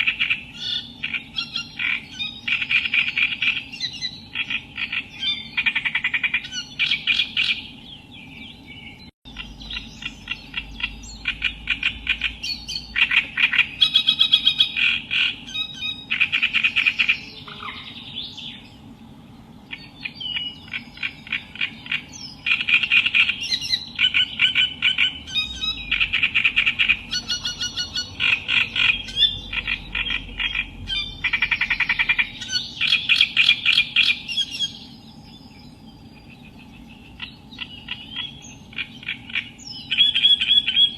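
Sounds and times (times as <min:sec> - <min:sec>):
reed warbler singing: 0:00.0 - 0:40.9.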